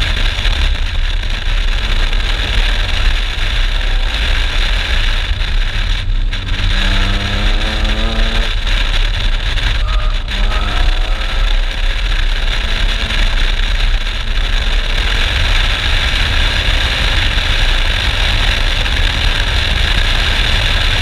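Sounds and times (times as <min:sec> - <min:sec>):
road noise: 0:00.0 - 0:21.0
wind buffeting camera: 0:00.0 - 0:21.0
faint car engine accelerating: 0:01.1 - 0:20.9.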